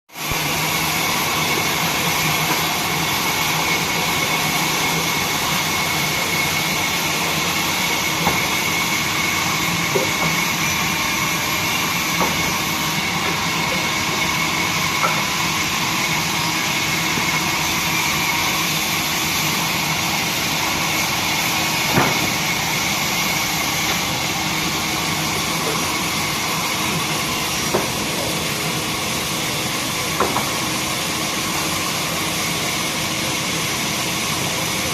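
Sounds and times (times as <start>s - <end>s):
band saw whining: 0.2s - 34.9s.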